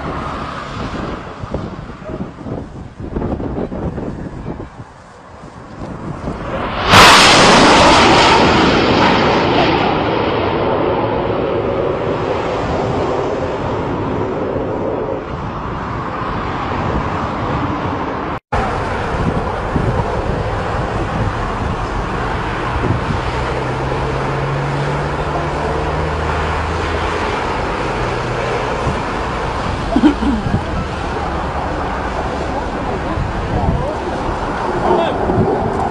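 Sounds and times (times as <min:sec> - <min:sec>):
fighter jet engine rushing: 0:00.0 - 0:35.9.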